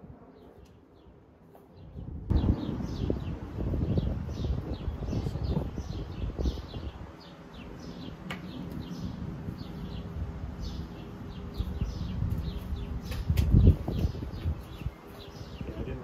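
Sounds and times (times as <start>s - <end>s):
birds chirping: 0.2s - 16.0s
low rumbling noise: 2.0s - 16.0s.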